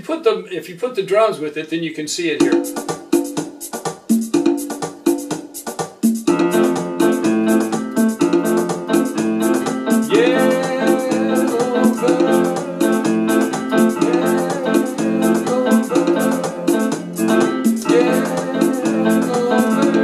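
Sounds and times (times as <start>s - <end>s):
keyboard drum rhythm: 2.2s - 20.0s.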